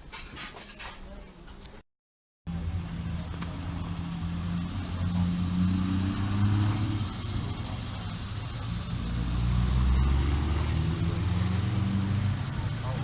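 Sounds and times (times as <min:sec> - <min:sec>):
car engine running: 0:02.5 - 0:13.0
road noise: 0:02.5 - 0:13.0.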